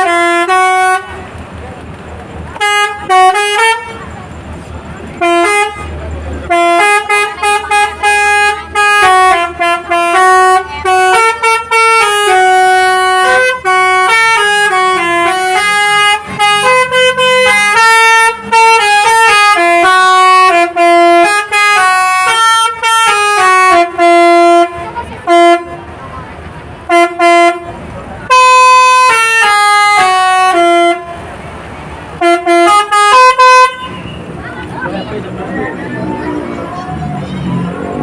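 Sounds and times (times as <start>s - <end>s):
multi-tone bus horn playing tune: 0.0s - 1.4s, 2.5s - 4.4s, 5.0s - 26.2s, 26.8s - 38.0s.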